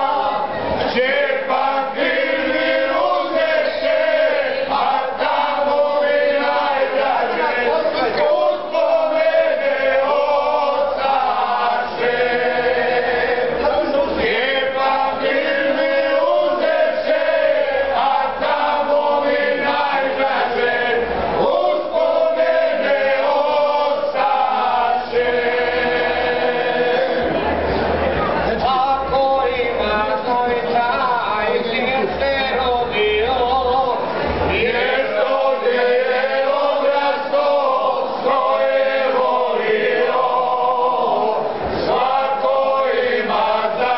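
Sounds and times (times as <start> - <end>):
men singing folk song: 0.0 - 27.4, 28.6 - 43.9.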